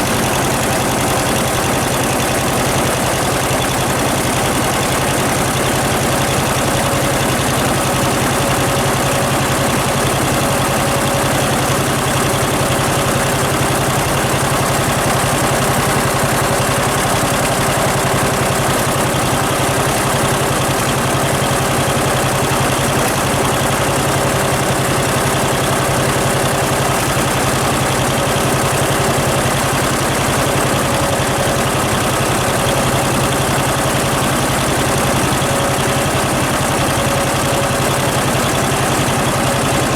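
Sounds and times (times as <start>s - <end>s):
tractor engine running steadily: 0.0s - 39.9s.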